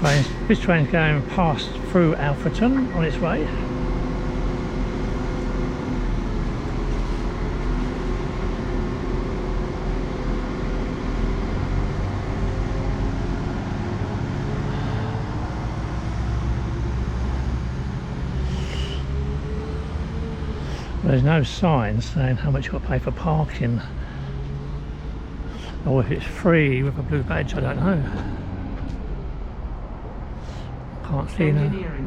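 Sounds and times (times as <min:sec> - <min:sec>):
diesel train passing: 0:00.0 - 0:32.0.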